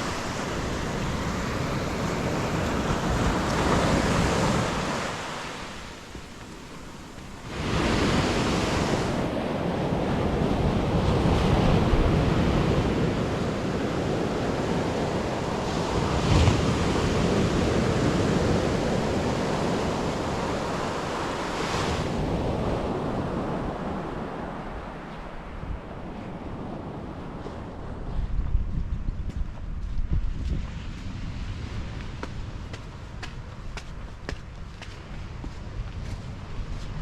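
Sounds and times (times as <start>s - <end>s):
sea surf on sand: 0.0s - 28.4s, 30.4s - 37.0s
wind buffeting microphone: 0.0s - 37.0s.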